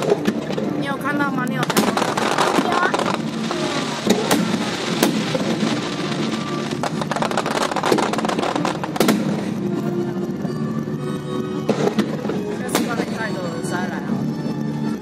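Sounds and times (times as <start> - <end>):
fireworks booms: 0.0 - 10.0, 11.6 - 13.8
fireworks bangs and crackles: 0.0 - 15.0
music: 0.0 - 15.0.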